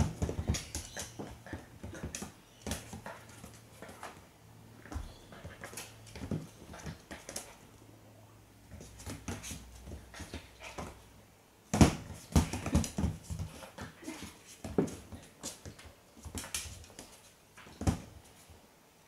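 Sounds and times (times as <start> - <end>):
puppy scuffling on hard floor: 0.0 - 7.6, 8.6 - 11.1, 11.8 - 18.6.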